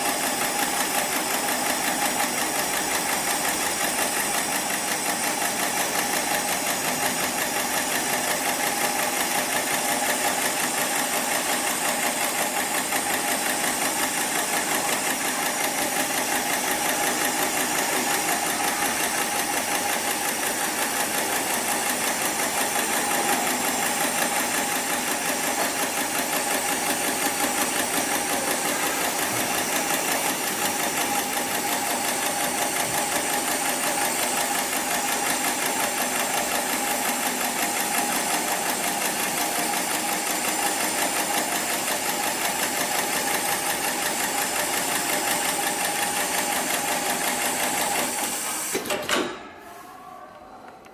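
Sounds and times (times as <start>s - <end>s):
sewing machine stitching: 0.0s - 49.5s.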